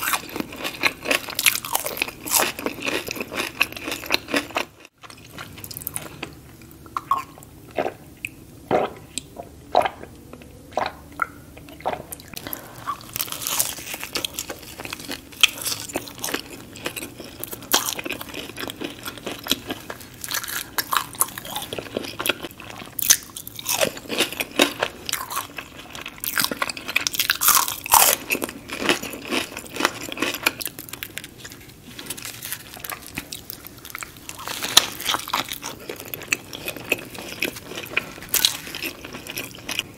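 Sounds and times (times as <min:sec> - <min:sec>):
crunchy biting and chewing: 0:00.0 - 0:06.4, 0:11.8 - 0:39.9.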